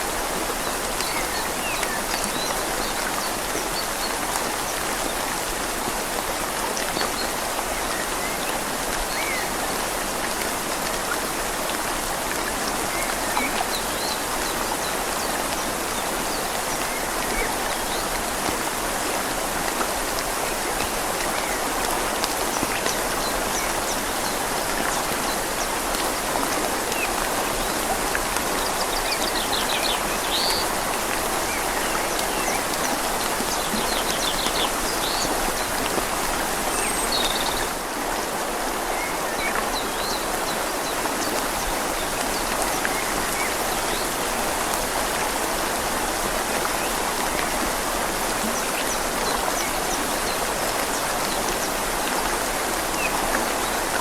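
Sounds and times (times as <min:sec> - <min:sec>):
rain falling on leaves: 0:00.0 - 0:54.0
river flowing: 0:00.0 - 0:54.0.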